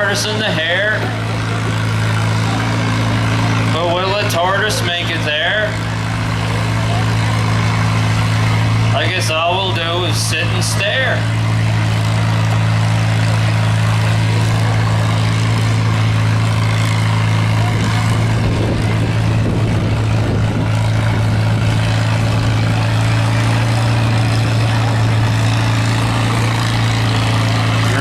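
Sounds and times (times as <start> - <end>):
tractor engine running under load: 0.0 - 28.0.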